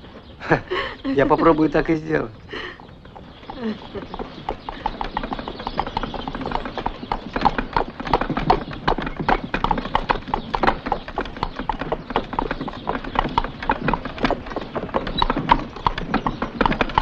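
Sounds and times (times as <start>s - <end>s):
horse hooves clip-clopping: 1.2s - 17.0s.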